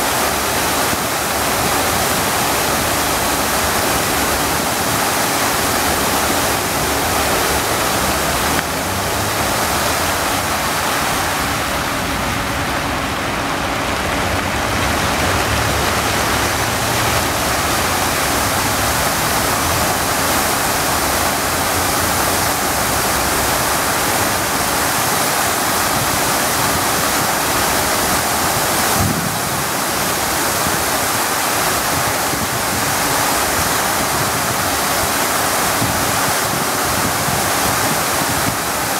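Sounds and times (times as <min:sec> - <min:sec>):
fountain water splashing into basin: 0:00.0 - 0:38.9.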